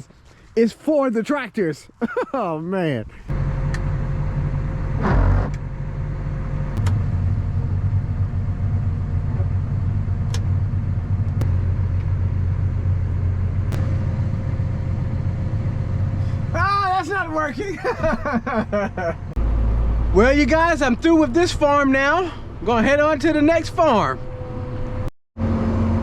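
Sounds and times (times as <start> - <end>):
vehicle engine rumbling: 3.1 - 26.0.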